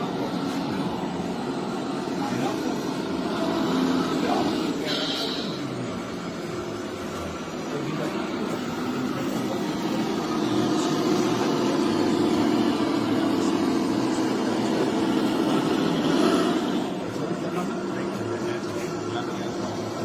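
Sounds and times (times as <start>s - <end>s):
rc machine motor running: 0.0s - 20.0s.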